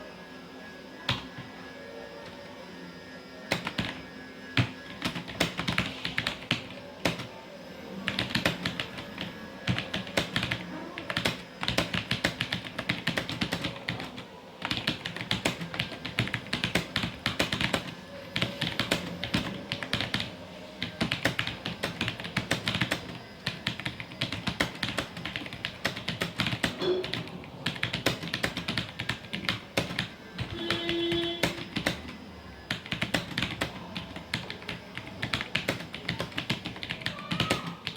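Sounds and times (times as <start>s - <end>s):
mechanical keyboard typing: 3.5s - 4.0s, 4.6s - 7.3s, 8.1s - 37.9s.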